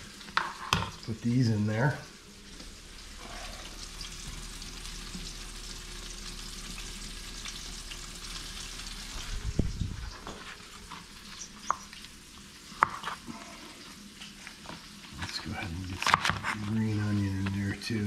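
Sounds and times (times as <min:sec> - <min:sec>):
fish sizzling in hot oil: 0:00.0 - 0:15.8.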